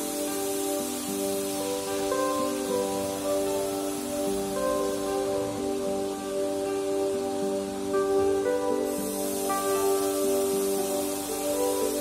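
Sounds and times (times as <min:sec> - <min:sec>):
soft held chords: 0:00.0 - 0:12.0
steady hiss: 0:00.0 - 0:12.0.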